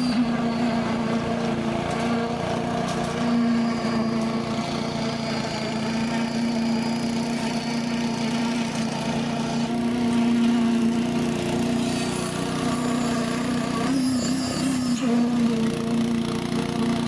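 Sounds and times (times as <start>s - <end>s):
engine droning hum: 0.0s - 17.0s.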